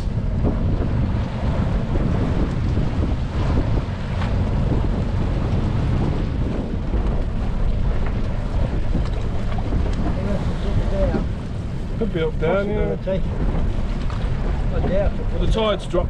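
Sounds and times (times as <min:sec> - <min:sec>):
outboard motor rumble: 0:00.0 - 0:16.0
water rushing along hull: 0:00.0 - 0:16.0
wind buffeting microphone: 0:00.0 - 0:16.0.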